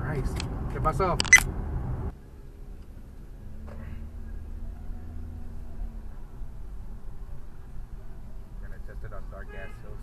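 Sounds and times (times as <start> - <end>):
vehicle rumble inside car: 0.0 - 10.0.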